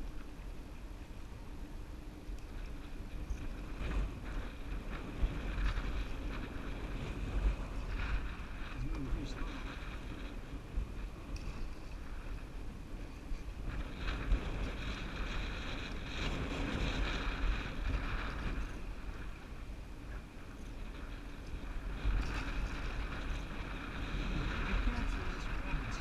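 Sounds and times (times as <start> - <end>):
canoe moving on river: 0.0 - 26.0
wind gusting on microphone: 0.0 - 26.0.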